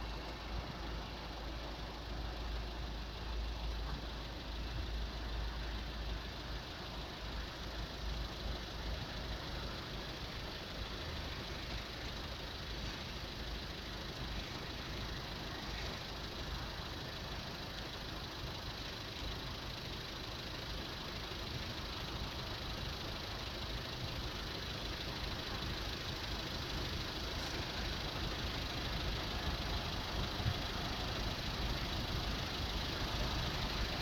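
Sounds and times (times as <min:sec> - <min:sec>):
diesel locomotive rumble: 0:00.0 - 0:34.0.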